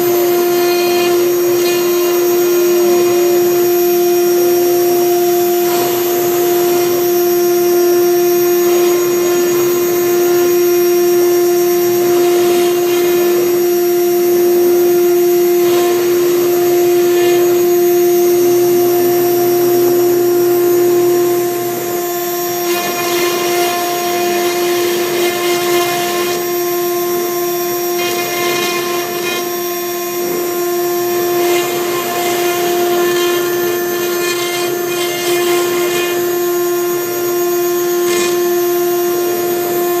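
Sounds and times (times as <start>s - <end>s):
bit engraving wood: 0.0s - 40.0s
router spindle whining: 0.0s - 40.0s.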